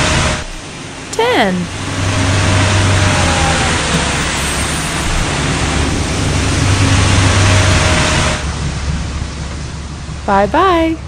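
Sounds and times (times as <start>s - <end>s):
street sweeper rushing noise: 0.0s - 9.4s
low engine hum: 0.0s - 11.0s.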